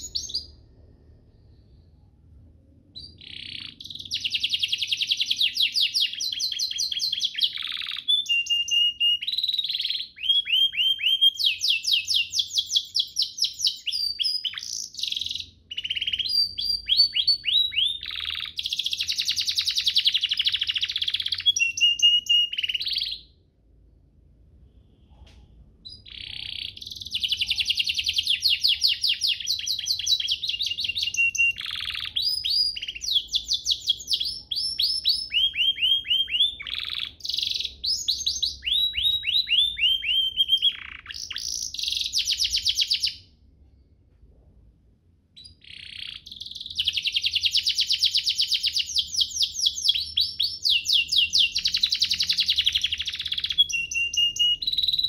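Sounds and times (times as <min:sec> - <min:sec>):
canary singing trills: 0:00.0 - 0:00.9, 0:03.0 - 0:23.4, 0:25.8 - 0:43.3, 0:45.4 - 0:55.0.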